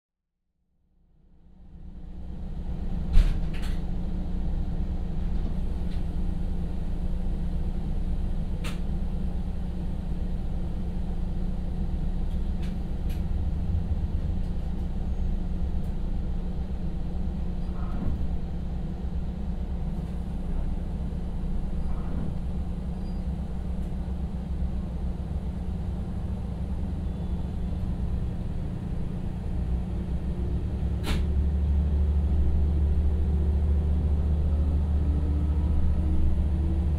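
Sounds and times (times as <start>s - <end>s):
diesel railcar engine idling: 0.9s - 36.9s.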